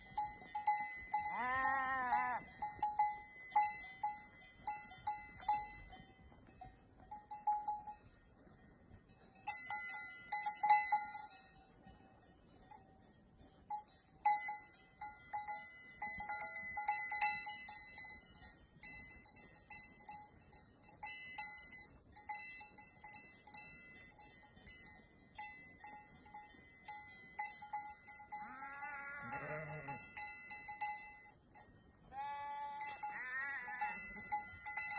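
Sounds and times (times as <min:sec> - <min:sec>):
sheep bells clanking: 0:00.0 - 0:34.9.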